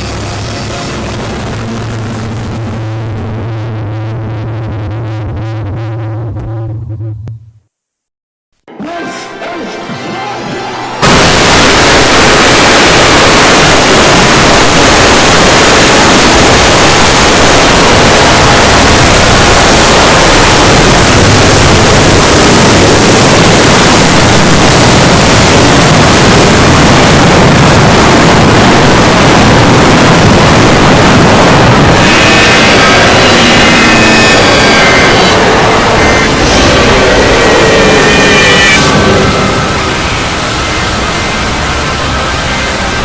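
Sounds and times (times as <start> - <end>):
loud distorted jumpscare noise: 0.0 - 5.8, 8.8 - 43.0.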